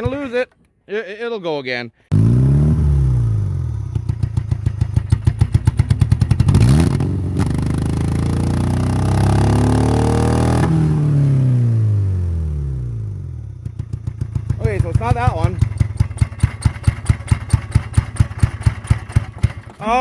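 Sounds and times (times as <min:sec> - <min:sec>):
car engine running rough: 0:02.1 - 0:20.0.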